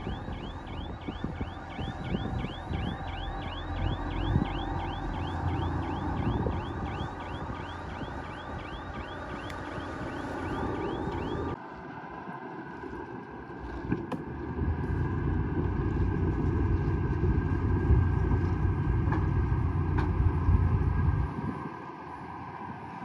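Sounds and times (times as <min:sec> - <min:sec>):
bulldozer diesel engine running: 0:00.0 - 0:11.6, 0:14.3 - 0:21.3.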